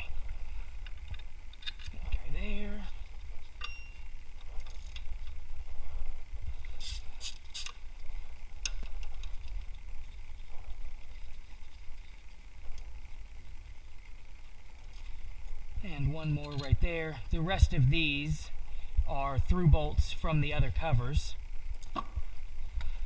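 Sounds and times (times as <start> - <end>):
steady low rumble: 0.0 - 7.2, 7.8 - 23.0.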